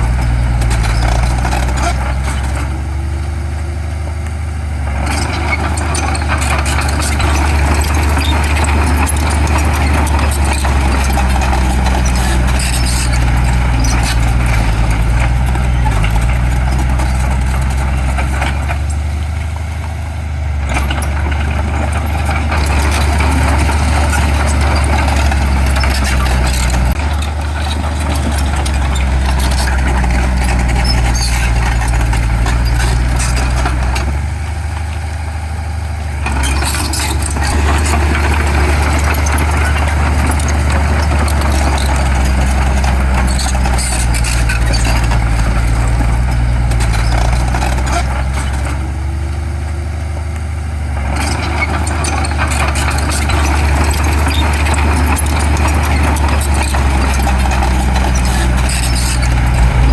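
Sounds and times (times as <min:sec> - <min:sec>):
diesel machinery engine drone: 0:00.0 - 0:59.9
machinery clatter: 0:04.9 - 0:19.0, 0:20.6 - 0:34.2, 0:36.2 - 0:48.8, 0:51.2 - 0:59.9.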